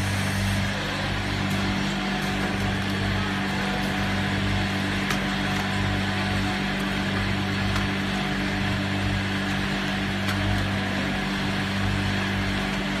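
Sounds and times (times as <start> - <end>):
packaging machine hum: 0.0 - 13.0.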